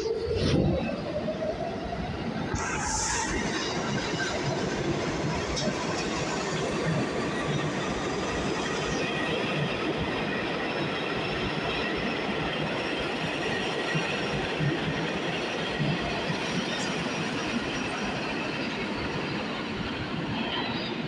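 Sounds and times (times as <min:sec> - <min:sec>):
subway train passing: 0:00.0 - 0:21.0.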